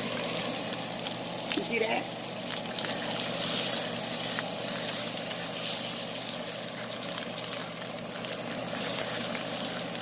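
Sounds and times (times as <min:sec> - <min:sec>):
hot dogs sizzling in skillet: 0:00.0 - 0:10.0.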